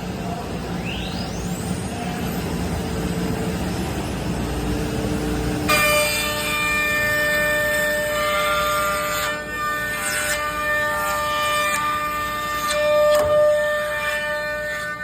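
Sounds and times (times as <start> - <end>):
cnc router rumble: 0.0 - 15.0.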